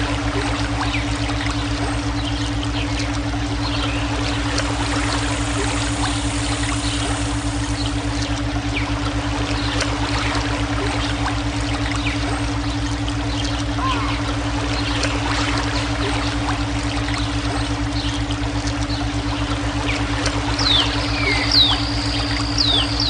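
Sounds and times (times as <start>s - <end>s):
throbbing low hum tones: 0.0s - 23.0s
water trickling with splashes: 0.0s - 23.0s.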